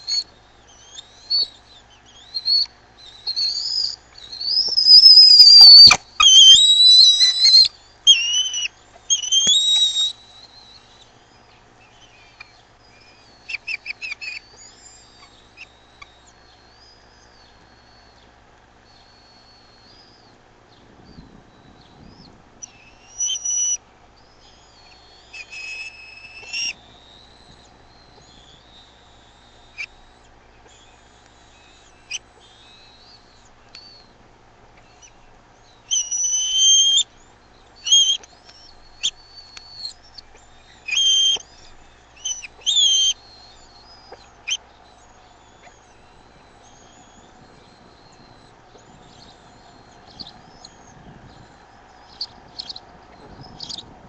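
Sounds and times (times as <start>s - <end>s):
eagles whistling squeals and chitters: 0.0s - 18.2s, 21.1s - 34.2s, 34.8s - 53.9s.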